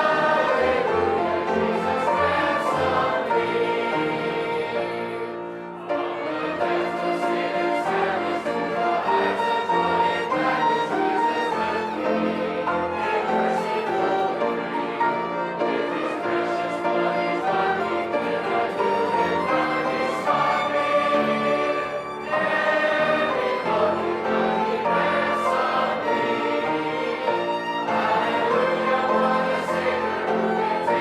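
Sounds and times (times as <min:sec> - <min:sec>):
instrumental accompaniment: 0:00.0 - 0:31.0
voices singing a hymn: 0:00.0 - 0:31.0.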